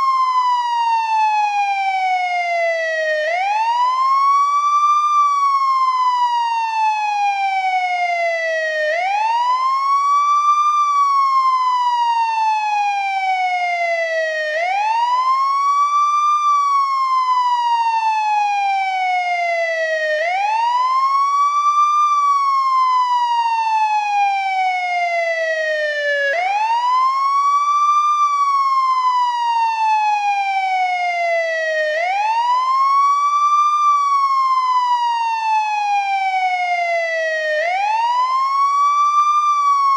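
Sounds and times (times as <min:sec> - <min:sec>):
ambulance wail siren: 0:00.0 - 0:39.9.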